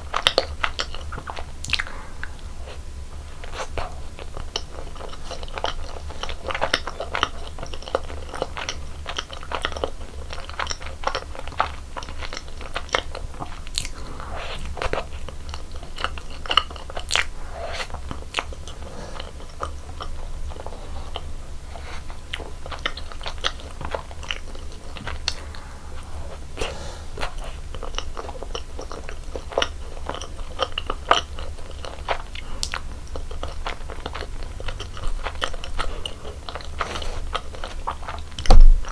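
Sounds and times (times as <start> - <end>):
biting and chewing donuts: 0.0 - 38.9.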